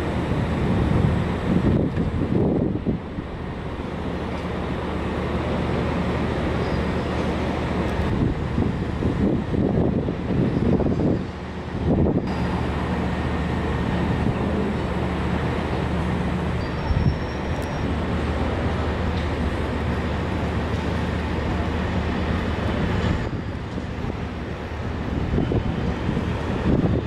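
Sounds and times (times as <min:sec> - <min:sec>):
large engine humming: 0:00.0 - 0:27.0.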